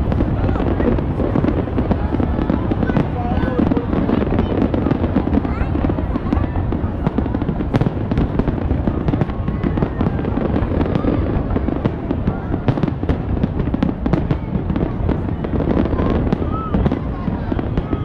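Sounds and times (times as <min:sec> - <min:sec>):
fireworks bursting with bangs and crackles: 0:00.0 - 0:18.0.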